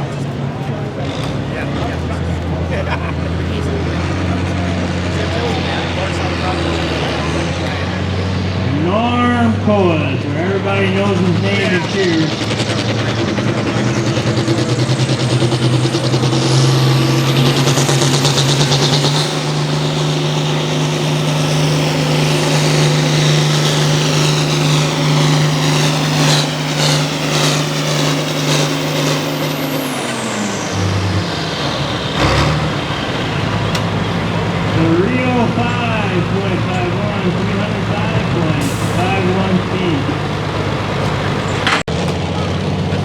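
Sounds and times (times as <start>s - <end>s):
tractor engine at full power: 0.0s - 43.0s.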